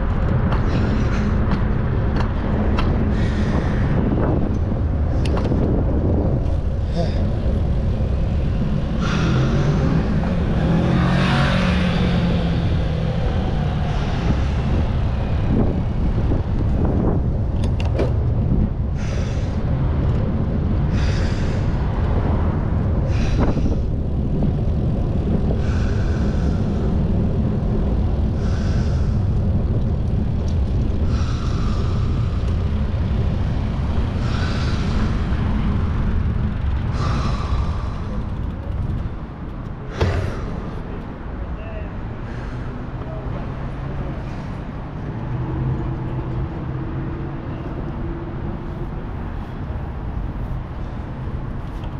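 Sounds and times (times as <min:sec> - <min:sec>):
city street traffic: 0:00.0 - 0:51.9
vehicle engine hum passing: 0:00.0 - 0:51.9
wind rumble on microphone: 0:00.0 - 0:51.9.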